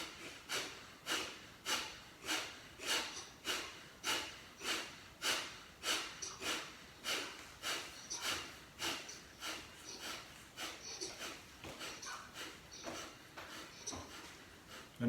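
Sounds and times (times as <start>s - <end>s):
forceful nasal exhalations: 0.0s - 14.9s.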